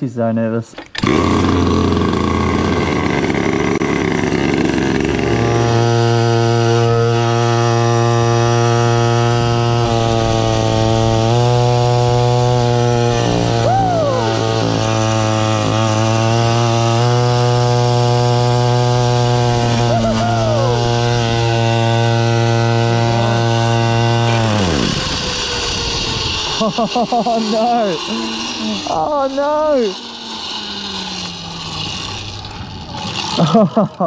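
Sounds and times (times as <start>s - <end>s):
kart engine running hard: 0.9s - 34.0s.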